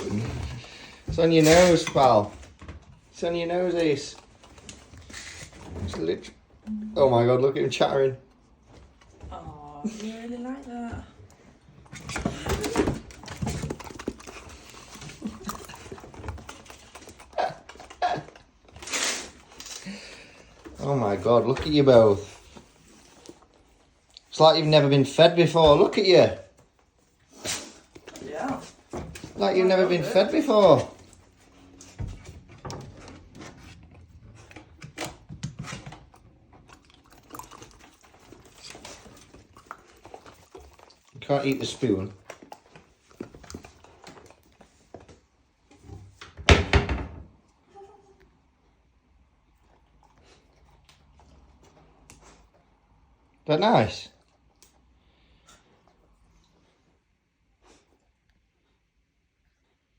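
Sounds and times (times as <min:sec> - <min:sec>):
puppies licking and lapping: 0:00.0 - 0:45.8, 0:47.8 - 0:59.9.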